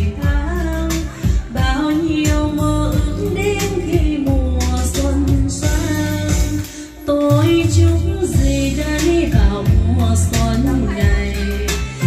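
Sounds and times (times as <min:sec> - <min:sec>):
recorded backing track with beat: 0:00.0 - 0:12.0
woman singing into a microphone: 0:00.0 - 0:12.0.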